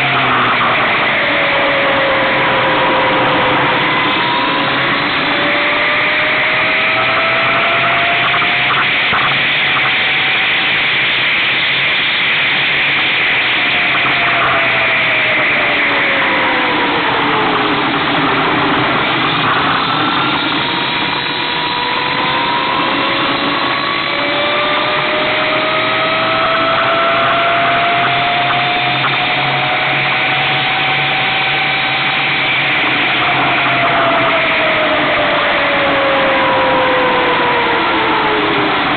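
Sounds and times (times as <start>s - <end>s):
electric motorcycle whining: 0.0s - 38.9s
wind and road noise: 0.0s - 38.9s.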